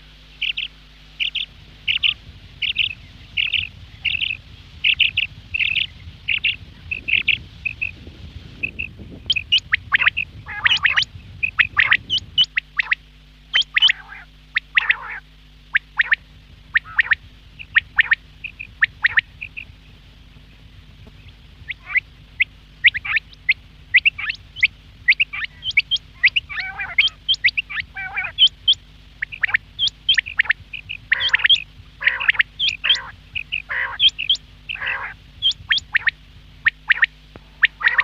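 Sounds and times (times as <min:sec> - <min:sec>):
low rough calls: 0:00.0 - 0:38.0
quails calling: 0:00.0 - 0:38.0
steady low hum: 0:00.0 - 0:38.0.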